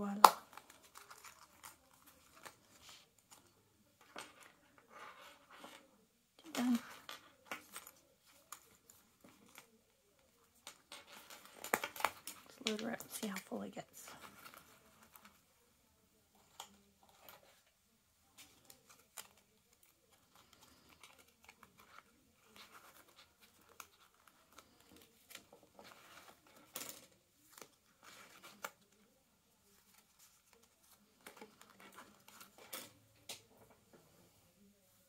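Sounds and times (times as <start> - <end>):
plastic cards clicking and scraping: 0.1 - 5.9, 6.5 - 15.4, 18.3 - 33.6.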